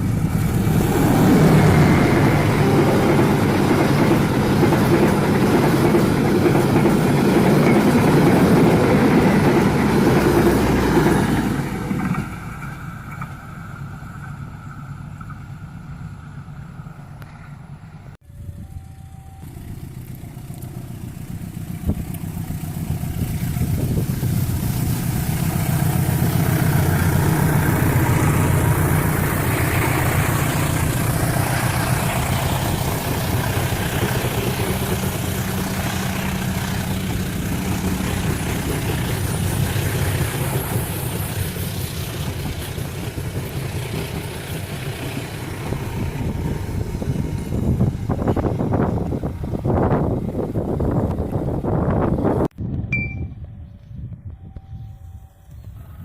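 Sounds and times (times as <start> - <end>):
diesel locomotive engine drone: 0.0 - 56.0
train running noise: 0.0 - 56.0.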